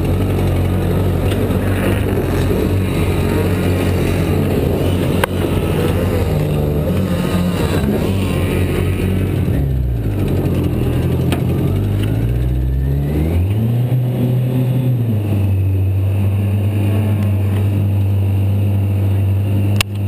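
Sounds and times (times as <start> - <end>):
motorcycle engine under throttle: 0.0 - 20.0.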